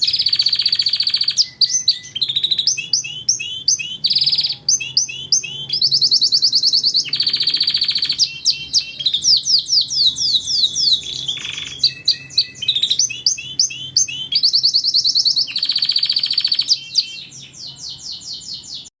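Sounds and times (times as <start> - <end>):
canary singing trills: 0.0 - 18.9.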